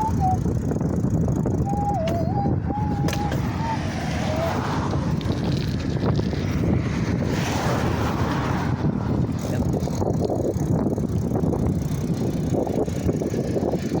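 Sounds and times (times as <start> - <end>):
bicycle tyre rumble: 0.0 - 14.0
wind buffeting microphone: 0.0 - 14.0.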